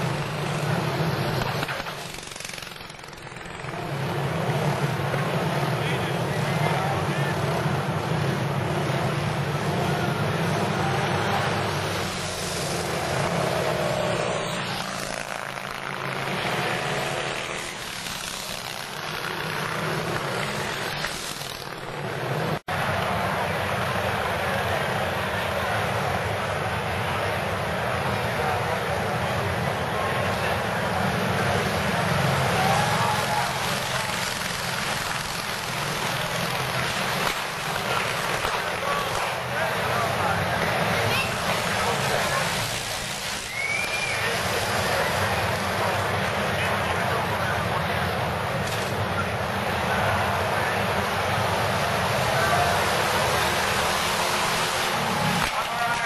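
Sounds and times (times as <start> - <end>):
racing motorcycles passing: 0.0 - 56.0.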